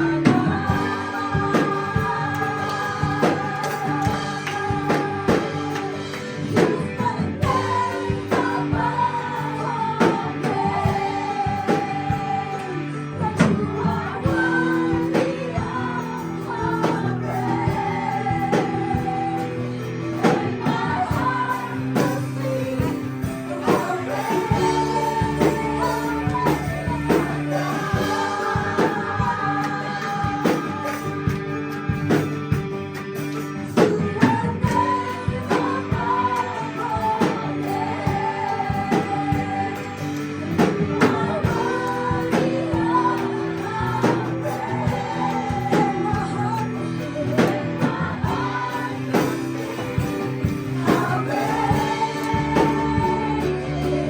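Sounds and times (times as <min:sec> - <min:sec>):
band playing worship music: 0:00.0 - 0:54.0
voices singing: 0:00.0 - 0:54.0.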